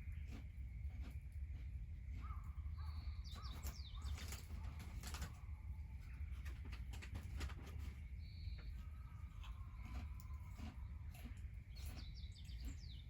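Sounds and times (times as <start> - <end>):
birds chirping: 1.5 - 7.0, 7.8 - 13.0.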